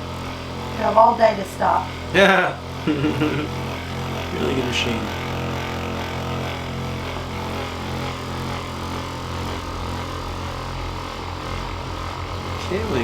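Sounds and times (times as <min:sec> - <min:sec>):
electric massager humming: 0:00.0 - 0:13.0.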